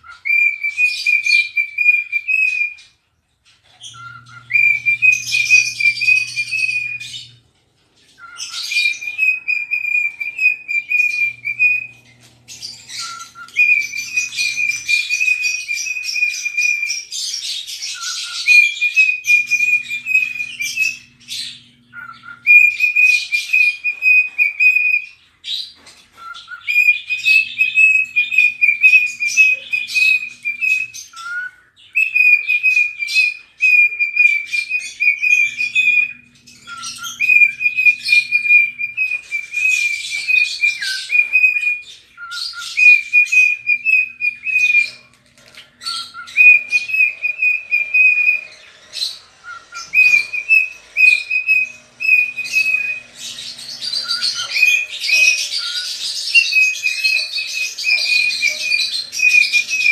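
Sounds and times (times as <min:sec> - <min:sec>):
cockatiel whistling: 0:00.0 - 0:02.9, 0:03.8 - 0:07.4, 0:08.1 - 0:59.9.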